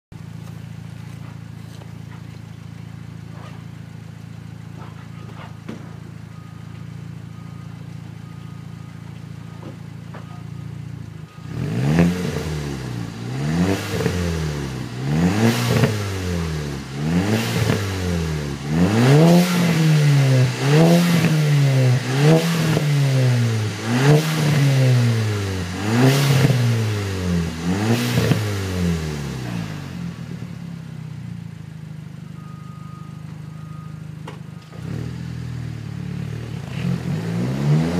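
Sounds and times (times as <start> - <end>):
car engine idling and revving: 0.1 - 37.9.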